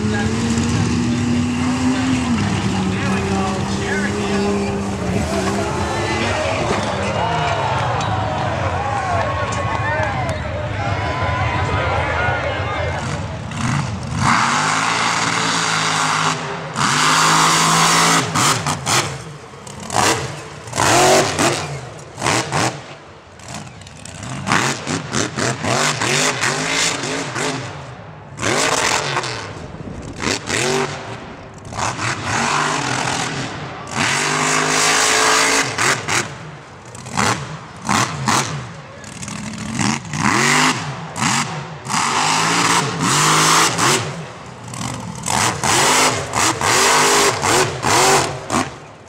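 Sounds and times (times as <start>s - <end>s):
truck engines revving hard: 0.0s - 49.0s.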